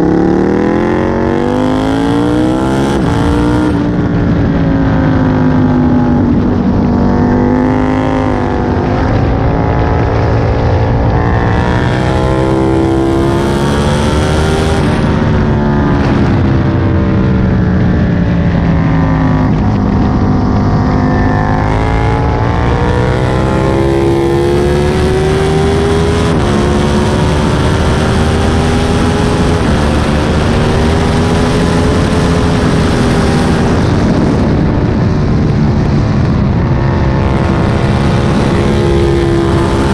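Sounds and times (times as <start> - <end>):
motorcycle engine at speed: 0.0 - 39.9
rushing wind noise: 0.0 - 39.9.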